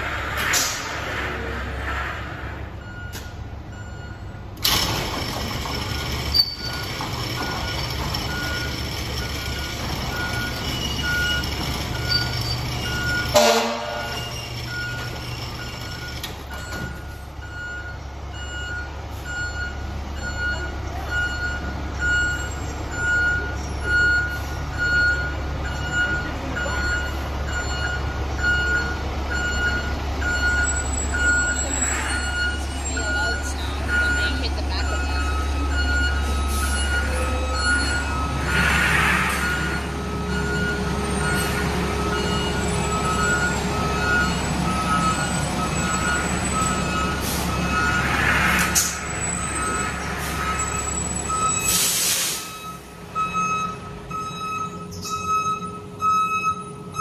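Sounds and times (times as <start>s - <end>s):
diesel engine running: 0.0s - 57.0s
reversing alarm beeping: 2.8s - 57.0s.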